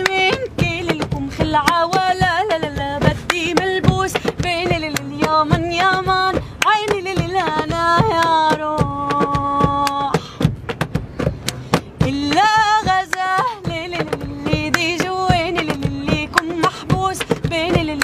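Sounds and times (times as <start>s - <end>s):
woman singing unaccompanied: 0.0s - 10.5s, 12.0s - 18.0s
hand claps and slaps: 0.0s - 18.0s.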